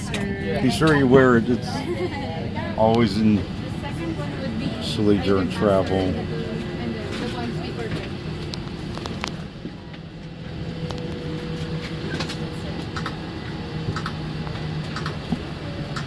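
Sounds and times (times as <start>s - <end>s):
aircraft cabin hum: 0.0s - 16.0s.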